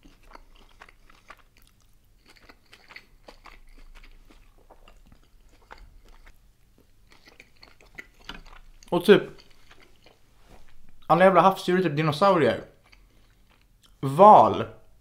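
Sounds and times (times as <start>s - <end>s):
chewing with mouth clicks: 0.0s - 11.1s, 12.7s - 14.0s.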